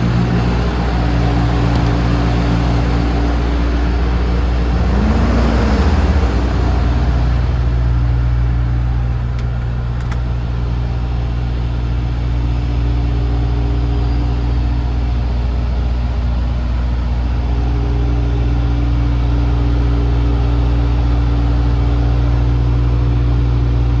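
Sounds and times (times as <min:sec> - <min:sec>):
diesel truck engine idling: 0:00.0 - 0:24.0.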